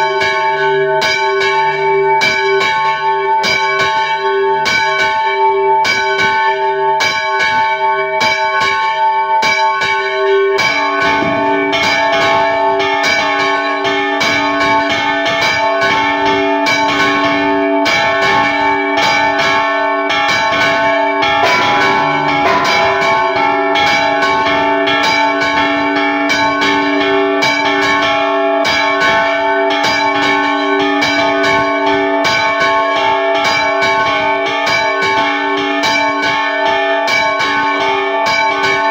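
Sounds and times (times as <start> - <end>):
church bells ringing rapidly: 0.0 - 38.9.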